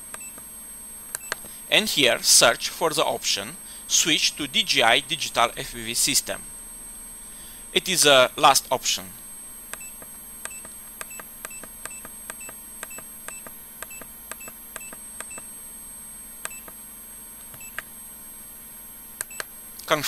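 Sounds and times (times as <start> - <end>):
faint electronic hum: 0.0 - 20.0.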